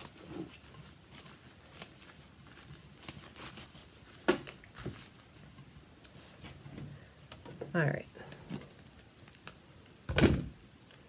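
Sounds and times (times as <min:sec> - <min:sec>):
rubber gloves rustling and snapping: 0:00.0 - 0:07.6, 0:08.3 - 0:10.0.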